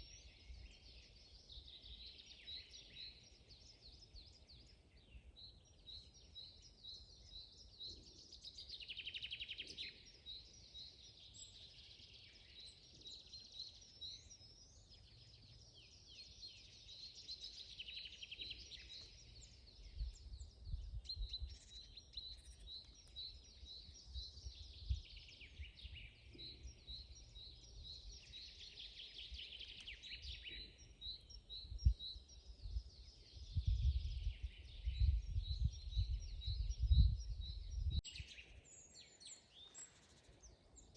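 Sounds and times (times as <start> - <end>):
birds singing: 0.0 - 40.9.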